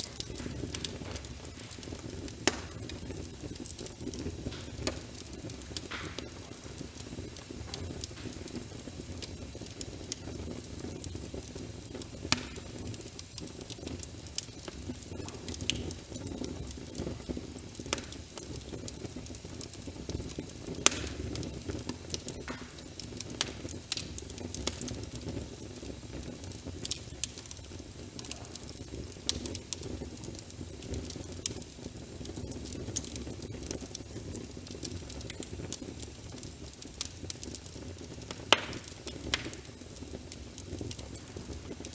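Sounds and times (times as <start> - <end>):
steady rain: 0.0 - 41.9
wood fire crackling and popping: 0.0 - 41.9.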